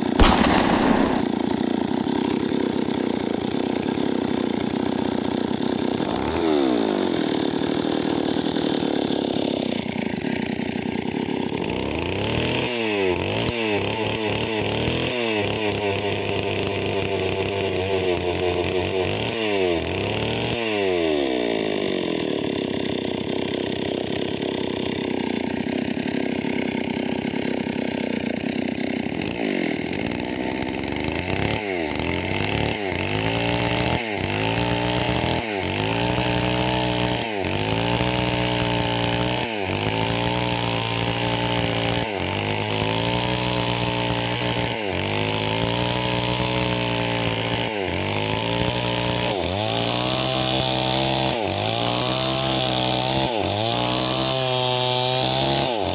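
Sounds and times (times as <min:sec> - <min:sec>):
chainsaw cutting a log: 0:00.0 - 0:55.9.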